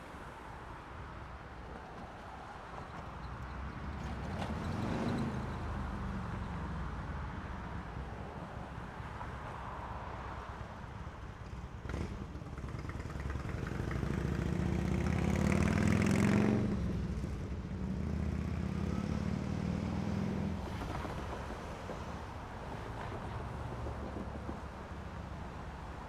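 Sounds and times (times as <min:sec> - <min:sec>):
street ambience: 0:00.0 - 0:26.0.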